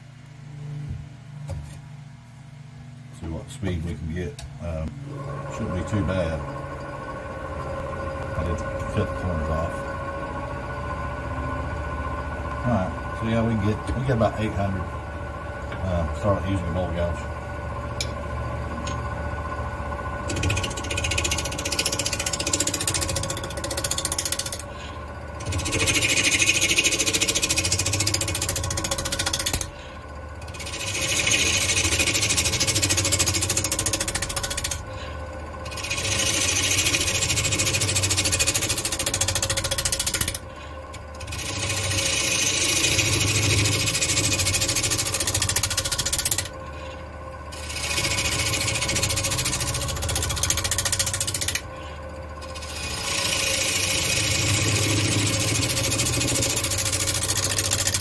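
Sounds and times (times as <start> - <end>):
wood lathe humming: 3.6 - 58.0
gouge cutting spinning wood: 5.0 - 58.0.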